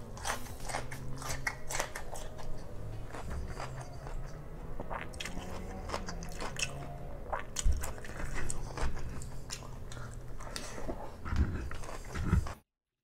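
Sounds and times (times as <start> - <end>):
person biting and chewing: 0.0 - 12.6.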